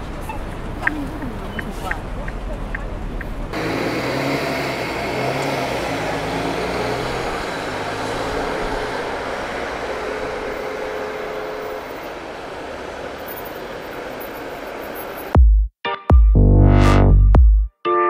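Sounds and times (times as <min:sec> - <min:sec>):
city traffic engines: 0:00.0 - 0:15.4.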